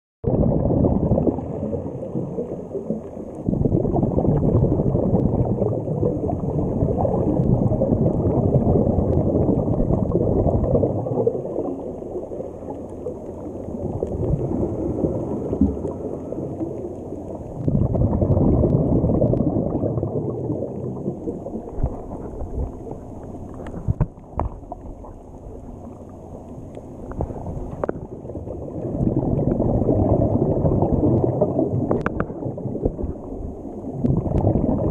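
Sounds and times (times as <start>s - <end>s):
underwater bubbling rush: 0.2s - 34.9s.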